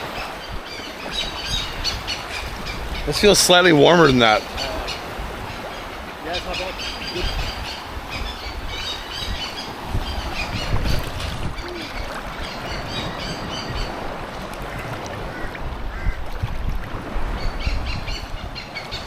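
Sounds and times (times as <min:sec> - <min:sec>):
wind rushing: 0:00.0 - 0:18.6
birds calling: 0:00.0 - 0:19.0
water rushing: 0:00.0 - 0:19.0.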